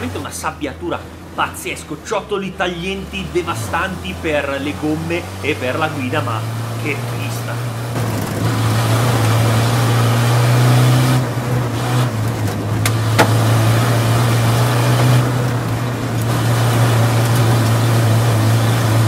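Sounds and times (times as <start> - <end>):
diesel engine at high revs: 0.0 - 19.0
gravel rushing under tyres: 2.9 - 19.0.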